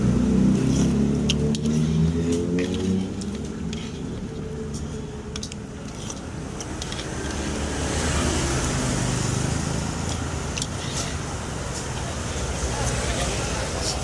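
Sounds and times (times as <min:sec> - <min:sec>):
vehicle passing with low rumble: 0:00.0 - 0:13.8.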